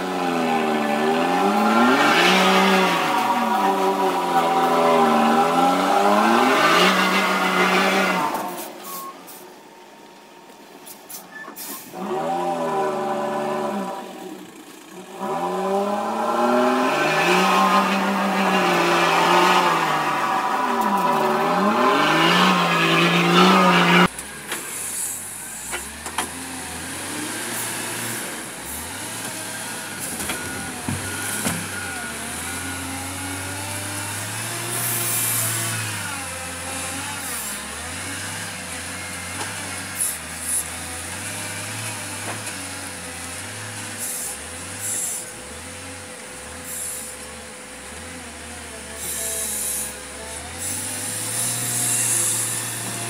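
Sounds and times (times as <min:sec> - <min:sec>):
truck diesel engine revving: 0:00.0 - 0:09.1, 0:11.8 - 0:53.0.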